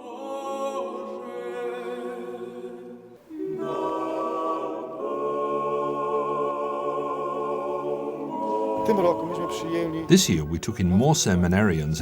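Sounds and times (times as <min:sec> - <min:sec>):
choir singing unaccompanied: 0:00.0 - 0:11.6.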